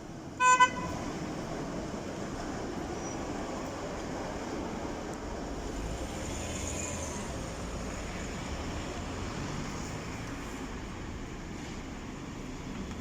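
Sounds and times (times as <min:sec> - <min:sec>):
rail noise: 0:00.0 - 0:13.0.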